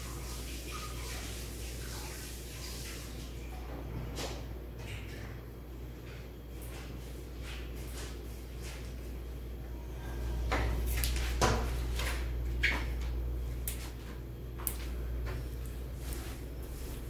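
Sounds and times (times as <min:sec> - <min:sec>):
steady low hum: 0:03.2 - 0:17.0.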